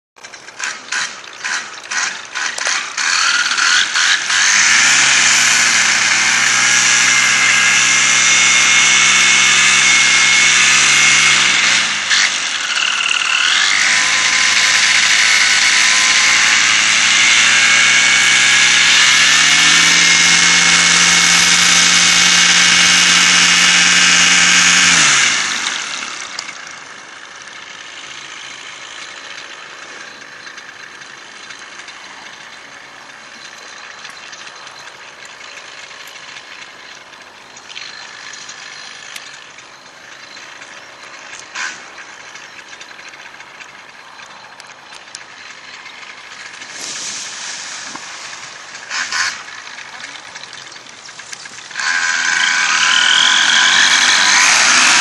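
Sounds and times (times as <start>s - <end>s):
engine pull-start cranking: 0.2s - 55.0s
paramotor engine running: 0.2s - 55.0s.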